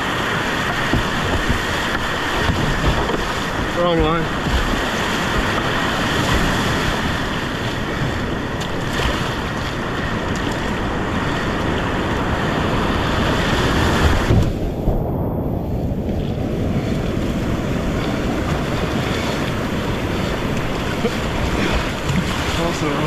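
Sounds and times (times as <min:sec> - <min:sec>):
whitewater rapids rushing: 0:00.0 - 0:14.6, 0:16.4 - 0:23.0
wind buffeting microphone: 0:00.0 - 0:23.0.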